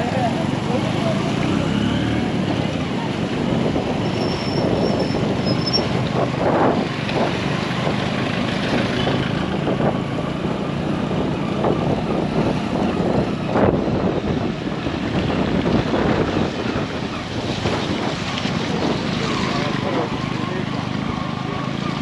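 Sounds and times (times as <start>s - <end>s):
road traffic rumble: 0.0s - 22.0s
wind buffeting microphone: 2.2s - 20.7s.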